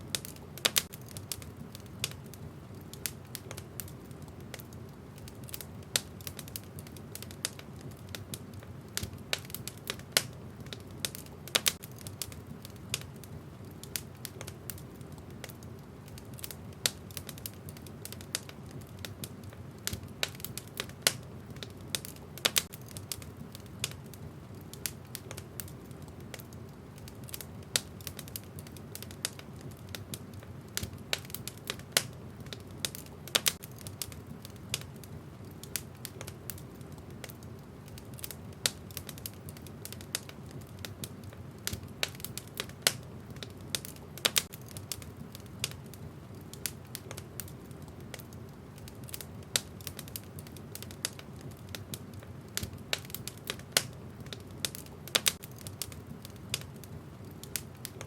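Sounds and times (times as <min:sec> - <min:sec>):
low rush of flames: 0:00.0 - 0:58.0
wood fire crackling and popping: 0:00.0 - 0:58.0.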